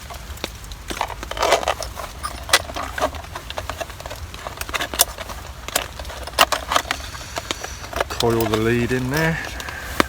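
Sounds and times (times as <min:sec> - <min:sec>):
camping stove parts clicking and knocking: 0:00.0 - 0:10.0
rustling: 0:00.0 - 0:10.0.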